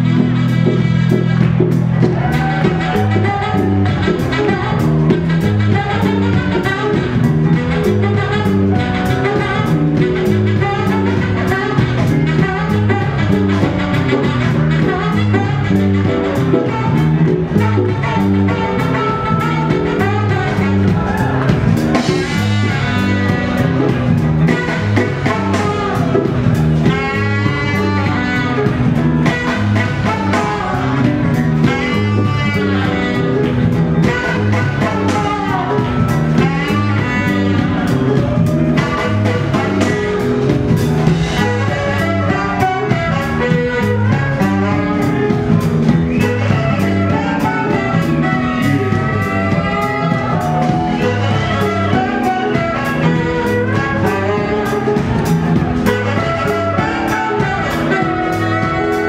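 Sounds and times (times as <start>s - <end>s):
funk band playing: 0.0s - 59.0s
saxophone solo: 0.0s - 59.0s.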